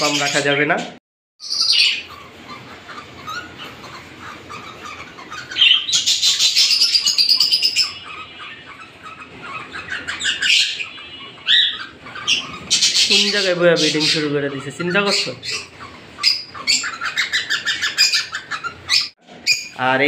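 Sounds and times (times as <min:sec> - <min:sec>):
cockatiels chattering and calling: 0:00.0 - 0:20.0.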